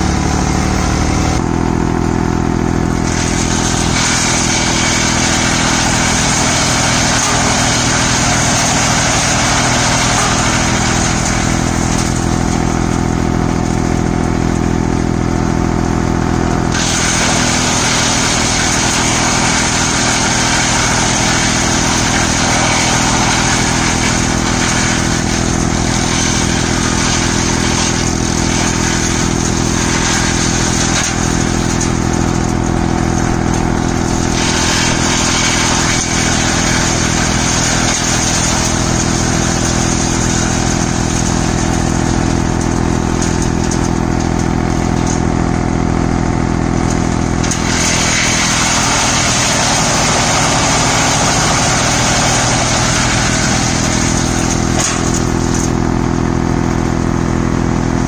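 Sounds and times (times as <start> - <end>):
tractor engine running: 0.0 - 58.0
wood chipper chipping branches: 0.0 - 58.0.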